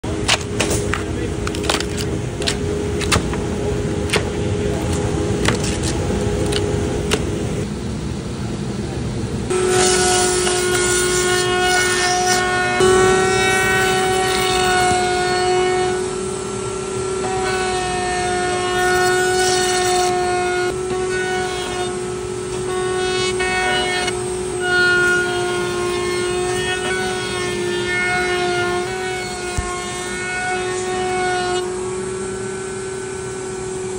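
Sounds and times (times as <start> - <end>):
router whining through wood: 0.0 - 7.7, 9.5 - 33.9
steady machine hum: 0.0 - 33.9.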